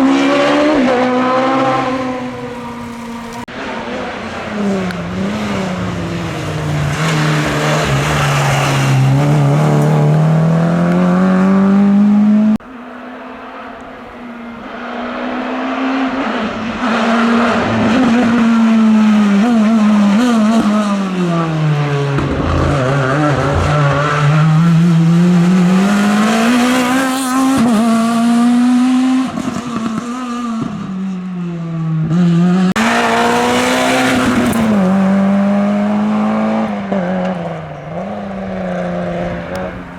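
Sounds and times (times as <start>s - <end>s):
rally car engines at high revs: 0.0s - 39.9s.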